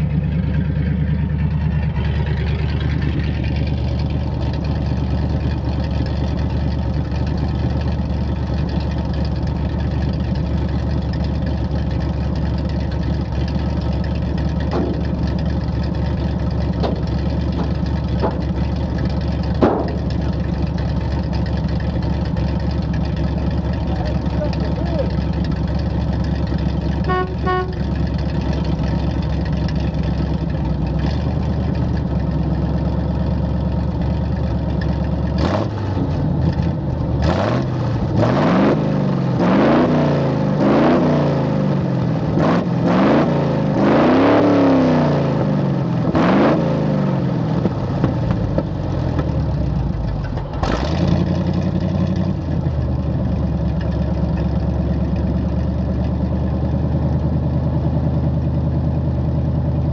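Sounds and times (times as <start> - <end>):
truck engine idling and revving: 0.0 - 59.9.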